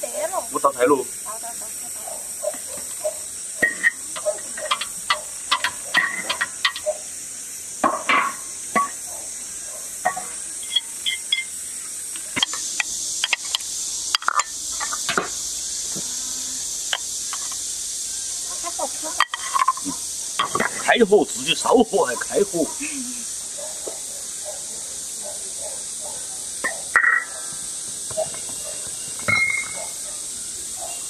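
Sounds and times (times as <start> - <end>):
steady high hiss: 0.0 - 31.0.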